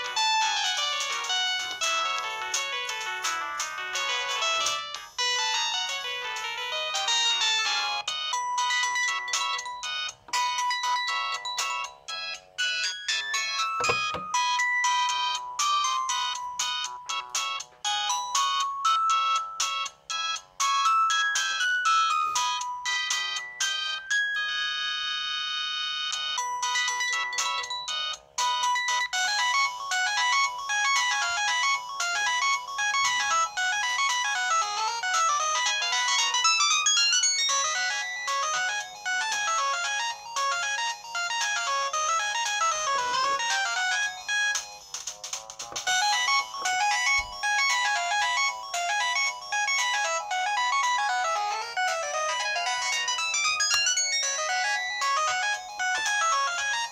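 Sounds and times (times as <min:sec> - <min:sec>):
phone ringtone melodies: 0:00.0 - 0:56.9.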